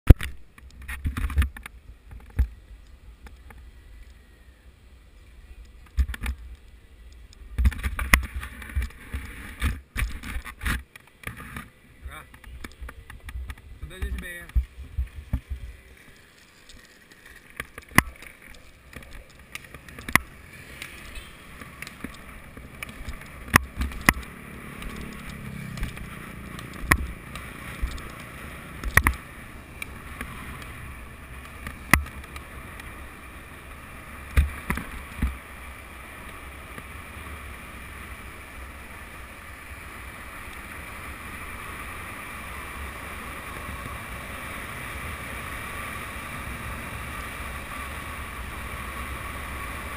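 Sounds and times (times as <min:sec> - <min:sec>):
skateboard wheels rolling on asphalt: 0:00.1 - 0:49.9.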